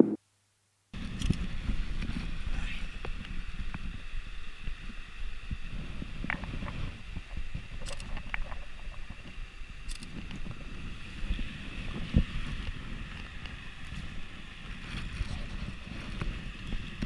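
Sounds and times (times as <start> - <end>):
stream water running: 1.0 - 17.0
wind rumbling on microphone: 1.0 - 17.0.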